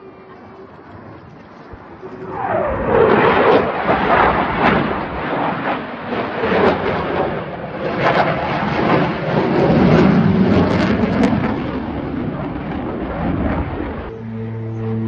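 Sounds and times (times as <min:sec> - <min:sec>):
aircraft engine rushing past: 0:00.0 - 0:15.0.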